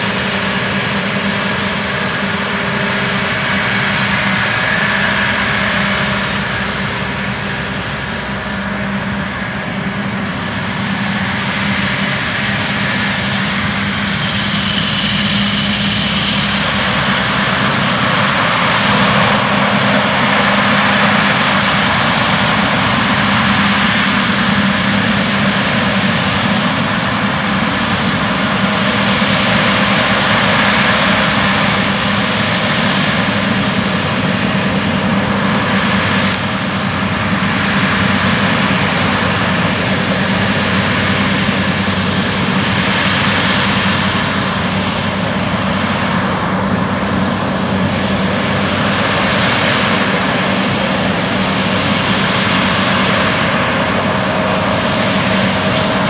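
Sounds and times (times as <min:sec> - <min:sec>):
combine harvester engine drone: 0:00.0 - 0:56.0.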